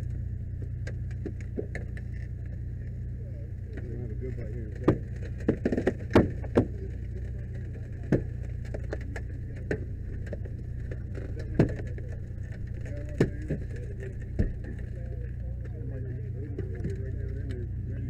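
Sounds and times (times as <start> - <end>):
engine running drone: 0.0 - 18.0.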